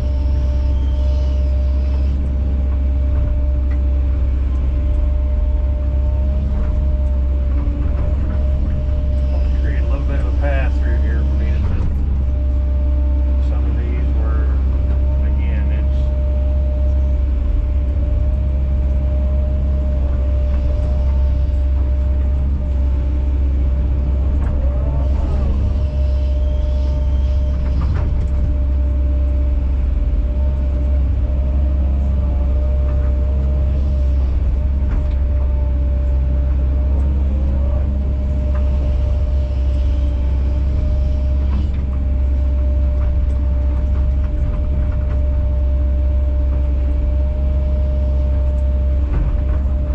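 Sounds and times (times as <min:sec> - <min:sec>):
excavator diesel engine running: 0:00.0 - 0:49.9
hydraulic whine: 0:00.0 - 0:49.9.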